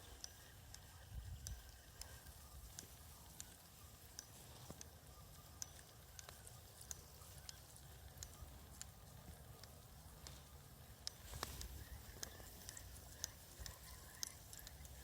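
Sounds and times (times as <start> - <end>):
small sharp clicks: 0.0 - 15.0.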